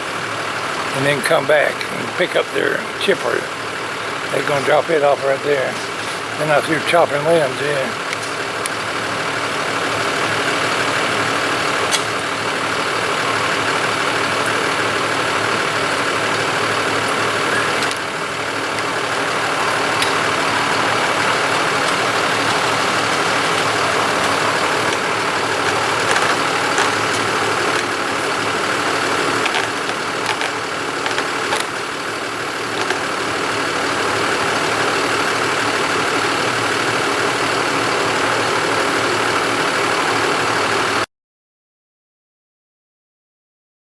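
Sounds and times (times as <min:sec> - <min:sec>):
large engine idling: 0:00.0 - 0:41.1.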